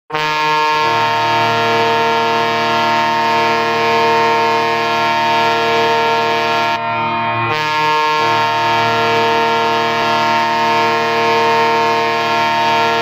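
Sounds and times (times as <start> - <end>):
hockey goal horn blast: 0.1 - 6.8, 7.5 - 13.0.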